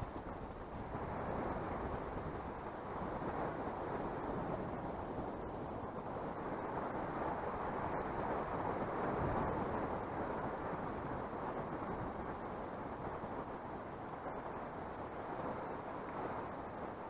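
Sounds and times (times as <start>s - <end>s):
wind rushing across microphone: 0.0s - 17.0s.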